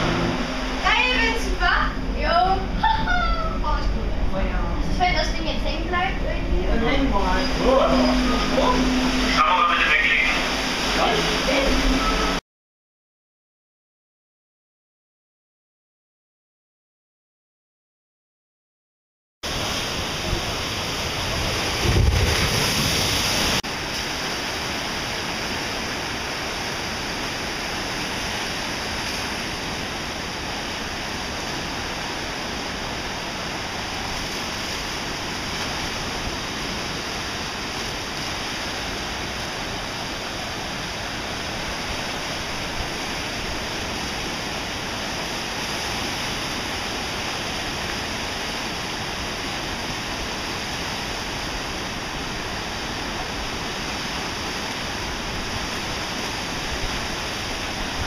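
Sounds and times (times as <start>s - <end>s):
churning water rushing: 0.0s - 12.4s, 19.4s - 58.0s.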